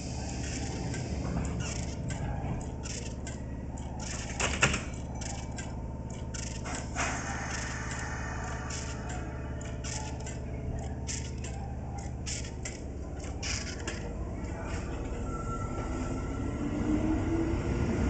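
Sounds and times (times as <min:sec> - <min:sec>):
electric train humming: 0:00.0 - 0:18.0.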